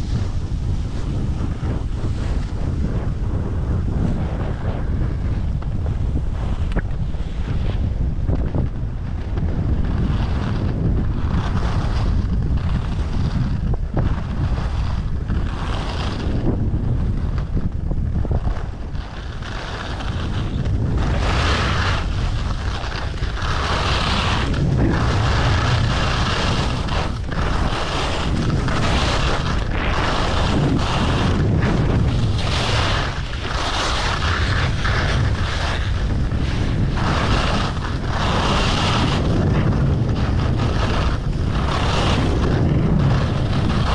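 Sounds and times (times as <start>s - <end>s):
skis scraping across snow: 0.0s - 43.9s
wind rumble on microphone: 0.0s - 43.9s.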